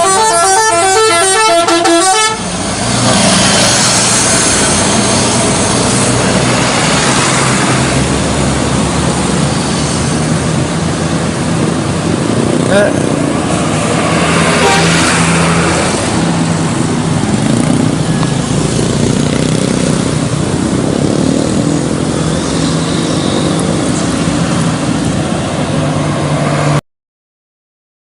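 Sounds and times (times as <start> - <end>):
traffic noise: 0.0 - 26.8
vehicle engine humming: 0.0 - 26.8.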